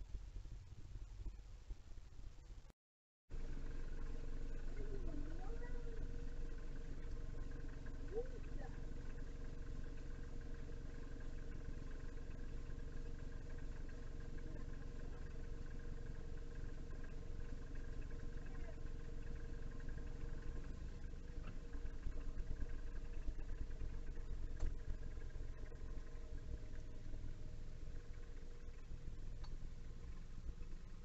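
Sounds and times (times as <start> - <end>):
faint steady hum: 0.0 - 2.7, 3.3 - 31.0
car engine rumbling: 3.3 - 31.0.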